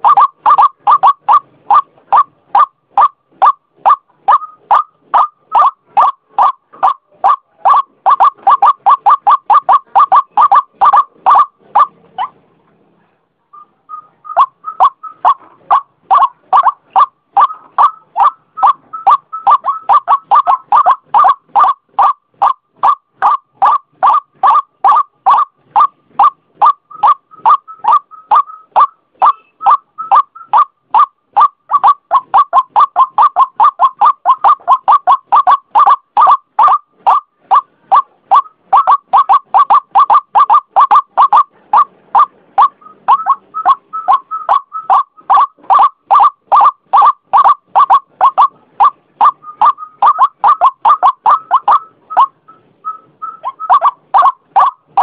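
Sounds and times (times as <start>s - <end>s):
waterhen calling: 0.0s - 12.4s, 13.9s - 55.0s.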